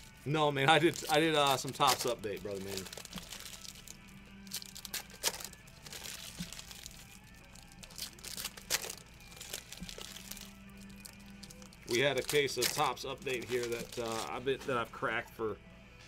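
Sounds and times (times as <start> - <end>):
card pack wrappers crinkling and tearing: 0.0 - 14.8
quiet background music: 0.0 - 16.0.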